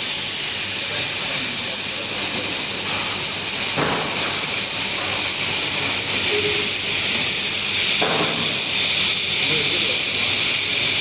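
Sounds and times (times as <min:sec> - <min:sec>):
laser welding machine hissing: 0:00.0 - 0:11.0.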